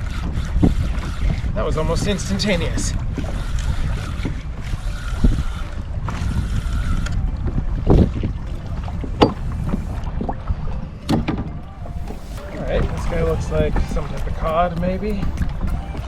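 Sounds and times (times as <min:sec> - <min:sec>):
water against kayak hull: 0:00.0 - 0:16.0
wind buffeting microphone: 0:00.0 - 0:16.0.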